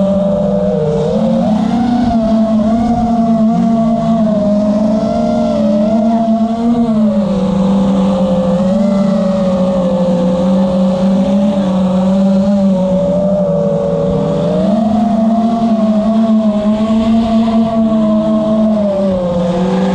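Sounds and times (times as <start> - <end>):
quadcopter motors humming: 0.0 - 19.9.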